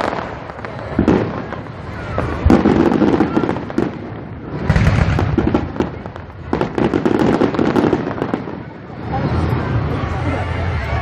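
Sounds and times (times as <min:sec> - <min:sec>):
deep fireworks booms: 0:00.0 - 0:10.1
fireworks crackling: 0:00.0 - 0:11.0.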